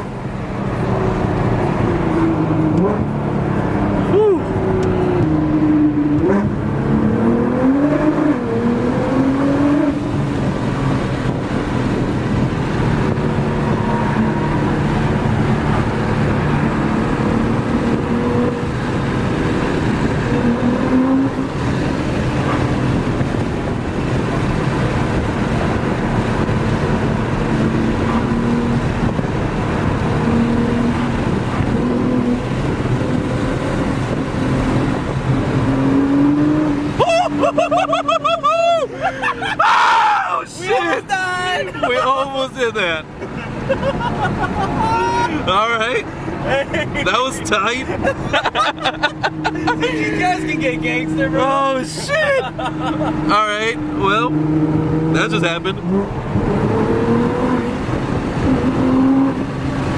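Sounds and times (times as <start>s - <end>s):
car engine revving hard: 0.0s - 38.4s, 41.8s - 59.9s.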